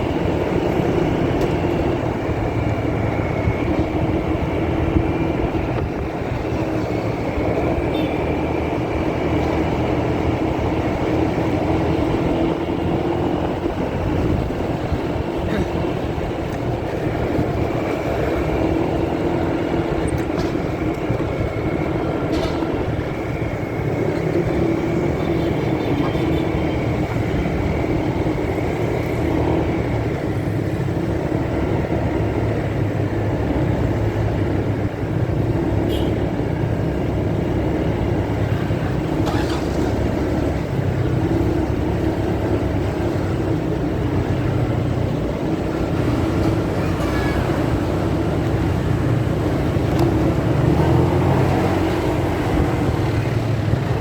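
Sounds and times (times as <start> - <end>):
motorcycle riding rumble: 0.0 - 54.0.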